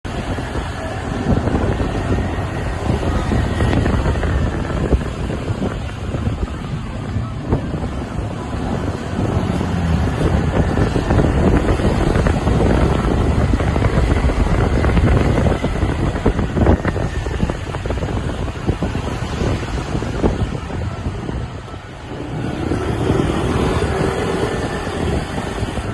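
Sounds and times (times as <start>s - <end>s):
motorcycle engine rumble: 0.0s - 25.9s
surrounding traffic: 0.0s - 25.9s
wind buffeting microphone: 0.0s - 25.9s.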